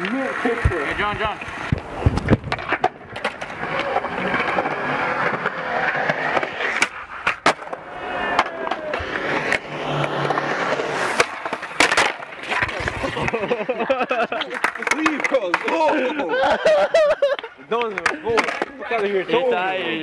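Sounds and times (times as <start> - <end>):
skateboard clacks: 0.0 - 19.2
skateboard wheels rolling on concrete: 0.0 - 20.0.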